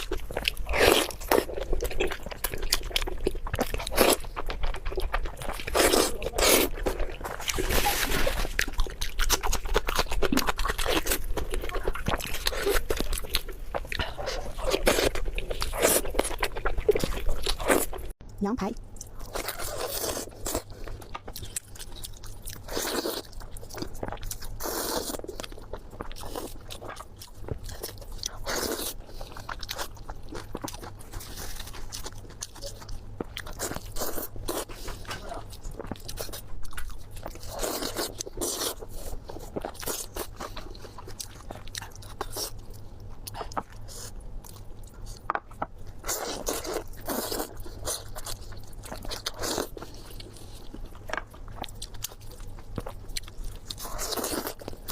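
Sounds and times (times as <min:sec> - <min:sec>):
person chewing with crunches: 0:00.0 - 0:54.9.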